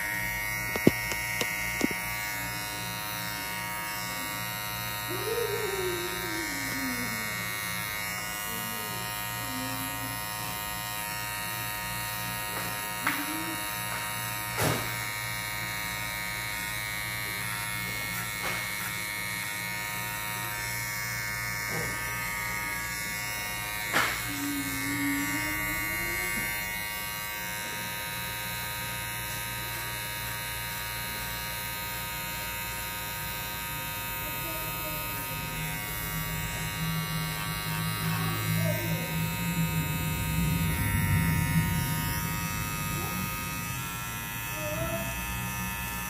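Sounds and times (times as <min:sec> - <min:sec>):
electric hair clippers buzzing: 0:00.0 - 0:46.0.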